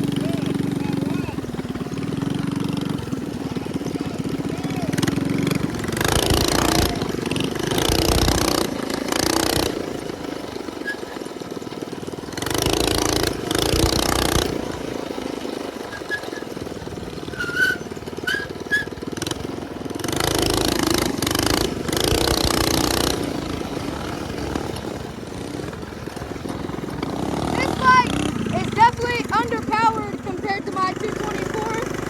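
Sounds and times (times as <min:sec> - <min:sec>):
small engine revving: 0:00.0 - 0:32.0.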